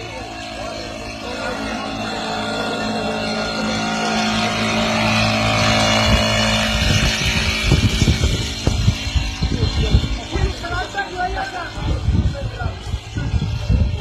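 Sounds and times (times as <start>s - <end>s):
low thumps and rumbling: 0.0s - 14.0s
motor engine running: 0.0s - 14.0s.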